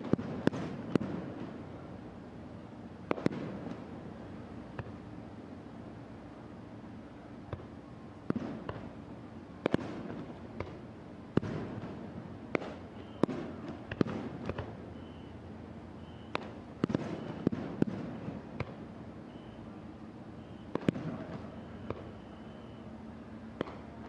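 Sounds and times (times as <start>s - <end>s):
fireworks bursting with echo: 0.0s - 5.1s, 7.4s - 24.0s.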